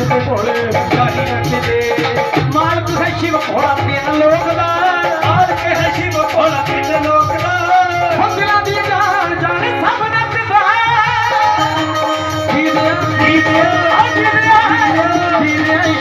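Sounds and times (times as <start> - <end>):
folk melody over speakers: 0.0 - 16.0
person singing: 0.0 - 16.0
rapid hand drum percussion: 0.0 - 16.0.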